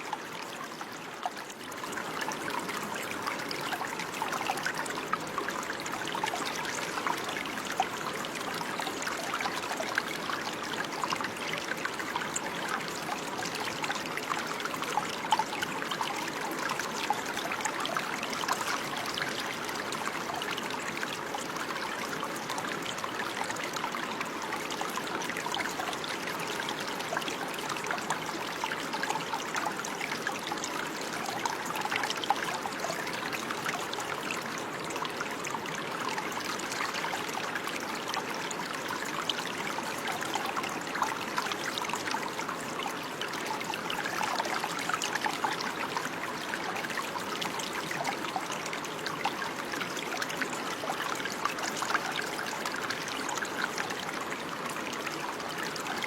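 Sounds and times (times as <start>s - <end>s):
water trickling over stones: 0.0s - 56.0s.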